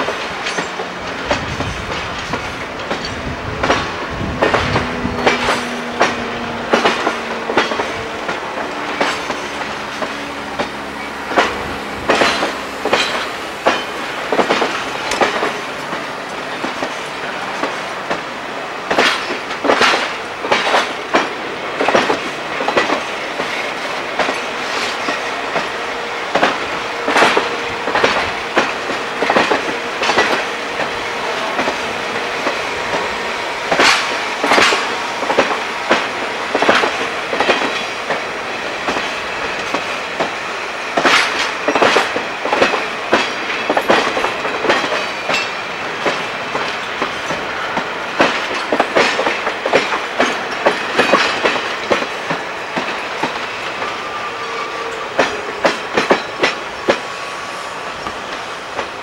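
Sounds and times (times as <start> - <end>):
train rolling rumble: 0.0 - 59.0
train wheels clicking over rail joints: 0.0 - 59.0.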